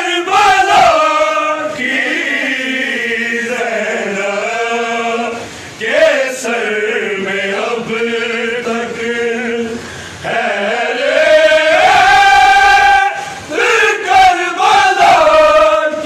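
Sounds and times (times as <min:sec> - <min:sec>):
men chanting in chorus: 0:00.0 - 0:16.0.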